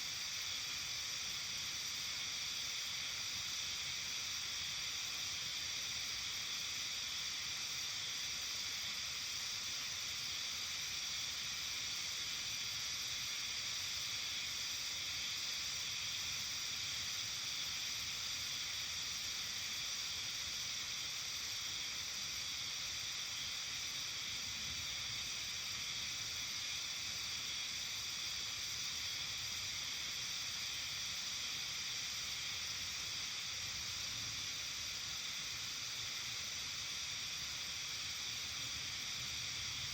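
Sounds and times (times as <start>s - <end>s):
evening countryside ambience hiss: 0.0s - 39.9s.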